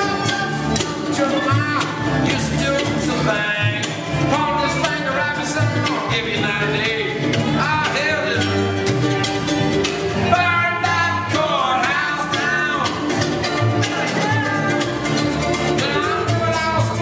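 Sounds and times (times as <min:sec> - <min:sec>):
man singing: 0:00.0 - 0:08.9, 0:10.0 - 0:17.0
bluegrass band playing: 0:00.0 - 0:17.0.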